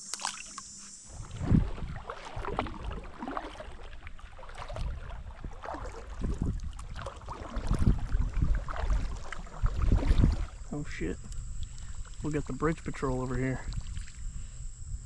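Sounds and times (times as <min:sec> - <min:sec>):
paddle splashing water: 0:00.0 - 0:14.6.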